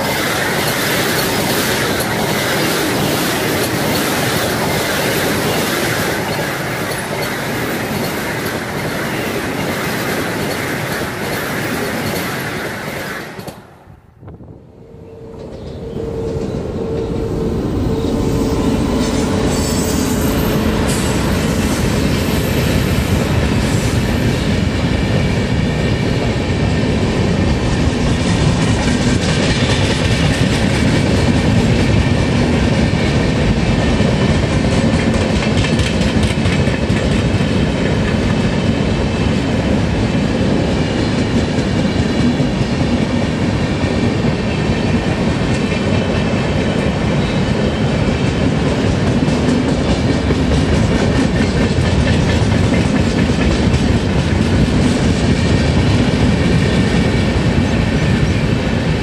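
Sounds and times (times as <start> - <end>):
clickety-clack over rail joints: 0.0 - 13.8, 20.2 - 59.0
train wheels rumbling on rail: 0.0 - 59.0.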